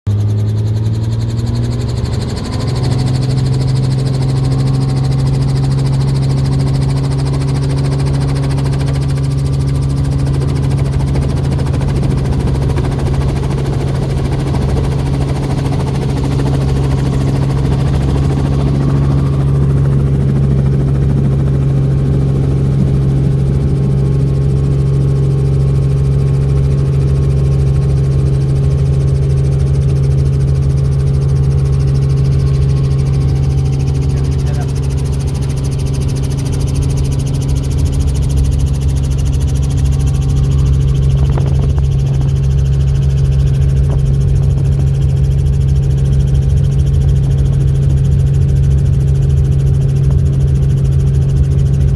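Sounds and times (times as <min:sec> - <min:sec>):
helicopter turbine and rotor drone: 0:00.1 - 0:51.9.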